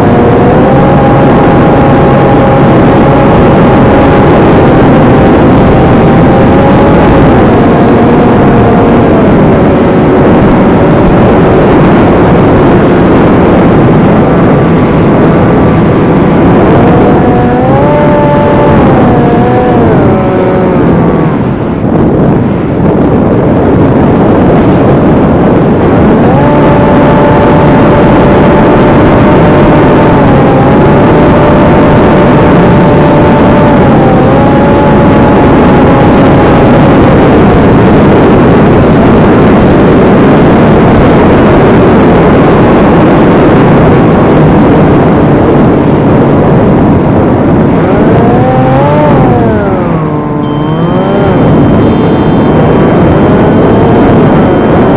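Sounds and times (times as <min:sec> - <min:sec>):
model aircraft motor humming: 0:00.0 - 0:43.0, 0:44.8 - 0:54.9
wind noise on microphone: 0:00.0 - 0:54.9.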